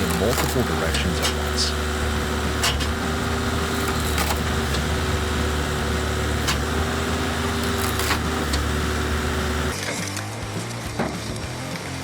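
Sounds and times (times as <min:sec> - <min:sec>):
log splitter engine running: 0:00.0 - 0:12.0.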